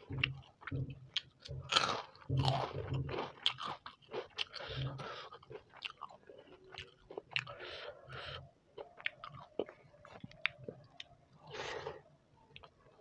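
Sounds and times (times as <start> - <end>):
close-miked chewing: 0.0 - 13.0.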